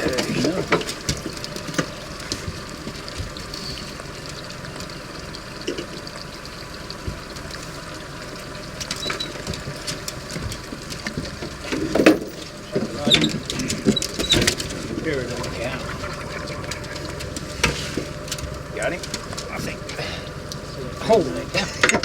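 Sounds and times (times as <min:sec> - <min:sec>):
boat motor running: 0:00.0 - 0:22.0
water noise: 0:00.0 - 0:22.0.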